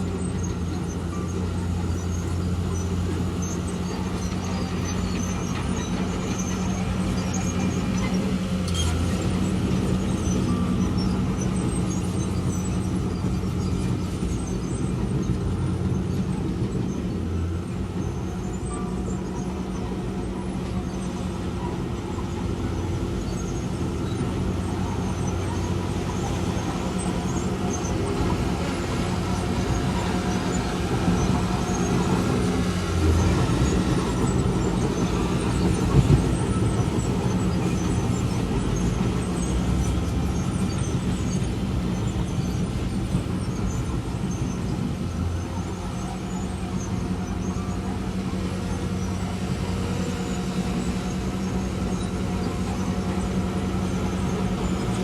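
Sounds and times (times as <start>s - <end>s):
diesel machinery engine under load: 0.0s - 55.0s.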